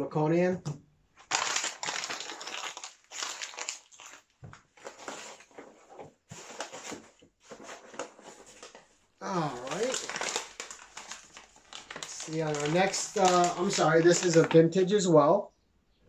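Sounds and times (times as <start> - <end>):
packaging rustling and crinkling: 1.2 - 14.8.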